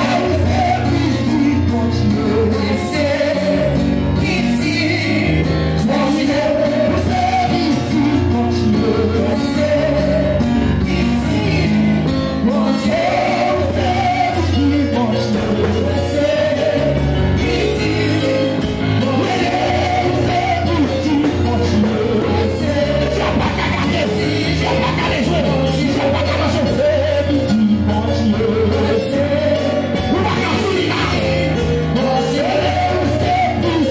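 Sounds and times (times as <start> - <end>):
band accompanying: 0.0 - 33.9
congregation singing worship song: 0.0 - 33.9.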